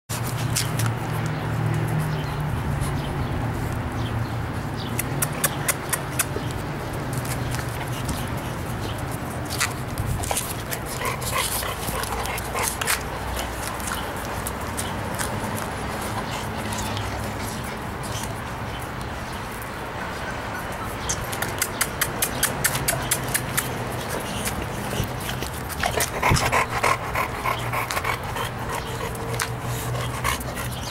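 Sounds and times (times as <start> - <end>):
dog claws clicking on concrete: 0.1 - 4.1, 4.8 - 19.9, 20.9 - 30.9.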